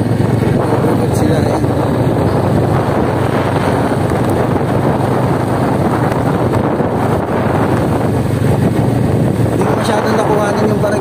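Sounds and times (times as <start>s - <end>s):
vehicle running on concrete road: 0.0s - 11.0s
wind buffeting microphone: 0.0s - 11.0s.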